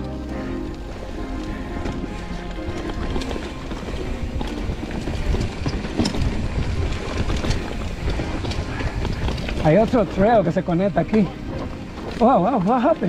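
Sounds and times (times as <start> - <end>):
bike clicks and rattles: 0.0 - 13.0
bike rolling over rocky trail: 0.0 - 13.0
wind rumble on microphone: 1.0 - 12.2.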